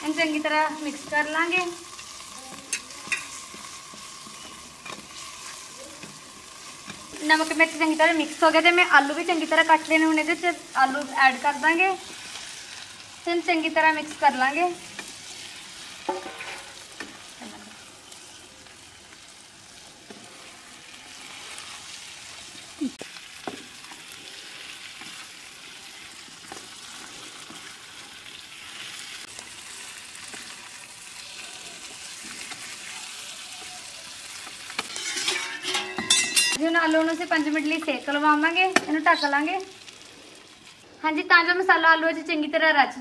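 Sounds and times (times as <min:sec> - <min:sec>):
potatoes sizzling in oil: 0:00.0 - 0:43.0.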